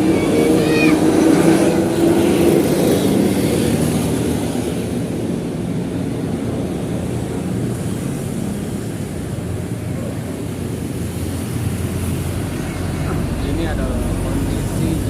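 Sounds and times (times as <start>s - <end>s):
large vehicle engine hum: 0.0s - 15.0s
traffic rumble: 0.0s - 15.0s.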